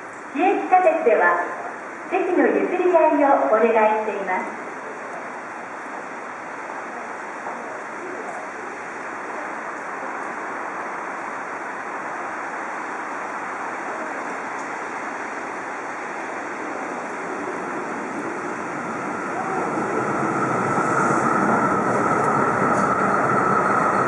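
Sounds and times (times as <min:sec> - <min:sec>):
train approaching rushing noise: 0:00.0 - 0:24.0.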